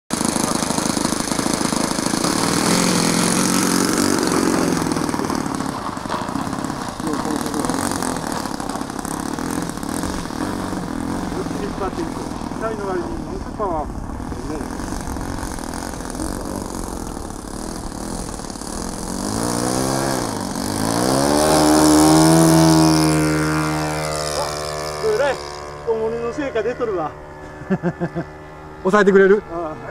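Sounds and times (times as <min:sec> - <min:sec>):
model airplane engine running: 0:00.1 - 0:29.9.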